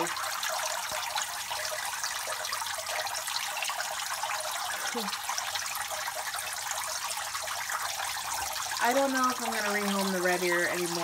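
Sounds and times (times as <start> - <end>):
water splashing into tank: 0.0 - 11.0.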